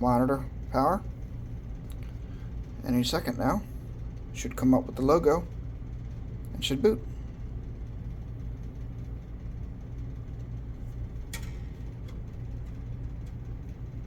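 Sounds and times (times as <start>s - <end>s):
computer fans humming: 0.0s - 14.0s.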